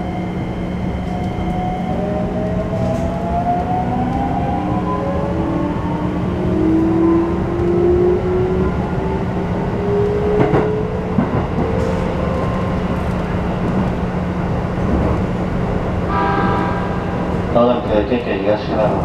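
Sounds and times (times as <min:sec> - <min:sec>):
wheel and rail rumble: 0:00.0 - 0:19.0.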